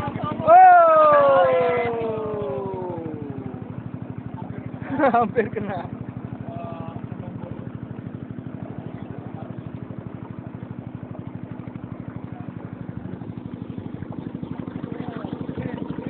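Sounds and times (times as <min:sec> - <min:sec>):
small boat engine puttering: 0:00.0 - 0:16.0.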